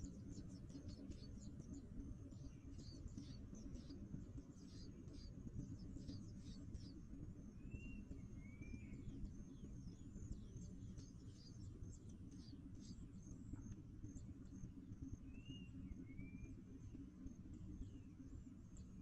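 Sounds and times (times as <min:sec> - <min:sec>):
low steady rumble: 0:00.0 - 0:19.0
small birds chirping: 0:00.0 - 0:19.0.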